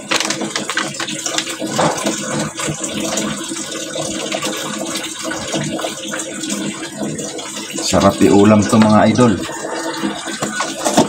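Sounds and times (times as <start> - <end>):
water running steadily: 0.0 - 11.0.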